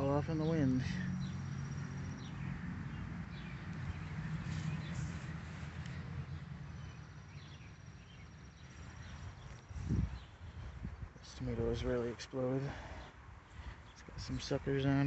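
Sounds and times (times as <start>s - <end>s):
low fluttering outdoor rumble: 0.0s - 15.0s
small birds chirping: 0.0s - 15.0s.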